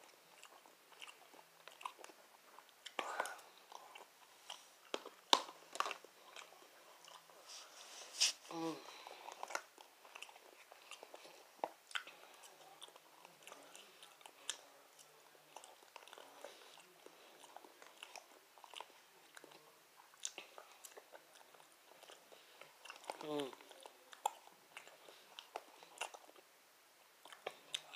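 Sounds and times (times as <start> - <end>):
soft chewing: 0.0 - 27.9.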